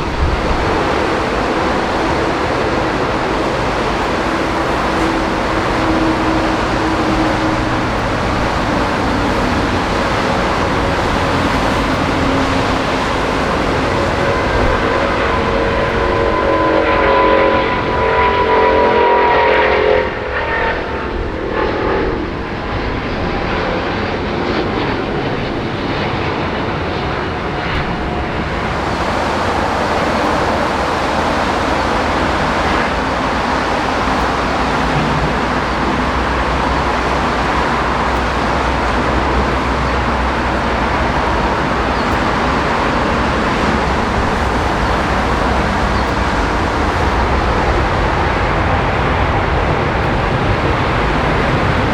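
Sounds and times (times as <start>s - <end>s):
jet engine whine and rush: 0.0s - 51.9s.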